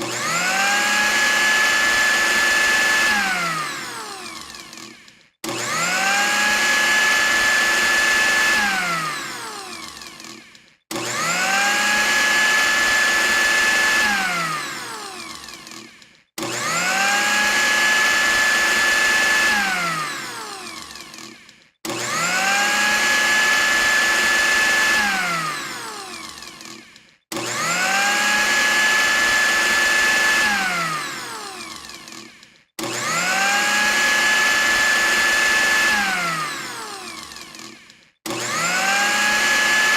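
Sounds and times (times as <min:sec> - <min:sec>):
blender motor whining: 0:00.0 - 0:39.9.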